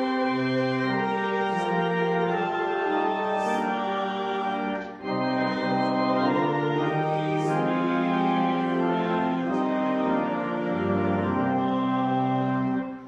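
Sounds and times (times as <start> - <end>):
church organ chords: 0.0 - 13.0.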